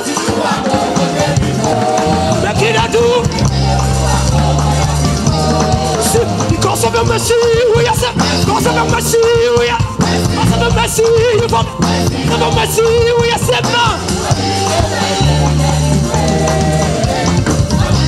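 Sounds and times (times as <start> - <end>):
backing singers: 0.0 - 18.0
drums: 0.0 - 18.0
lead singer wavering voice: 0.0 - 18.0
bass line: 0.3 - 18.0.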